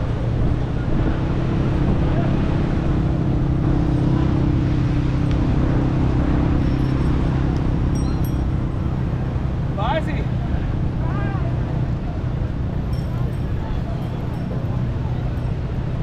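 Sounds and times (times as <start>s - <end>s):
traffic engine hum: 0.0s - 16.0s.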